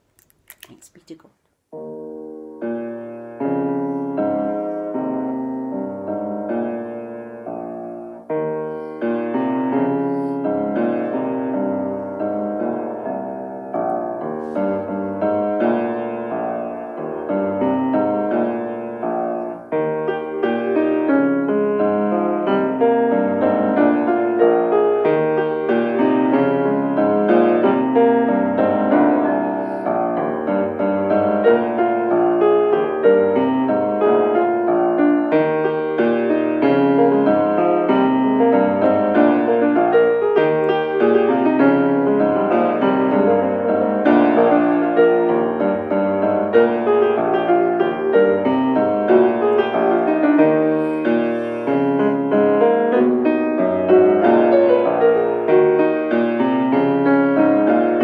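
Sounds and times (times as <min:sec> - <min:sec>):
flowing grand piano piece: 0:01.7 - 0:58.0.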